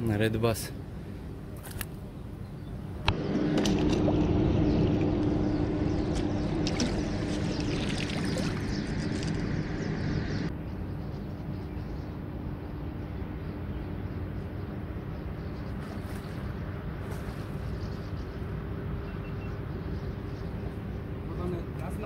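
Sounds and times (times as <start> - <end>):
low engine hum: 2.7 - 22.0.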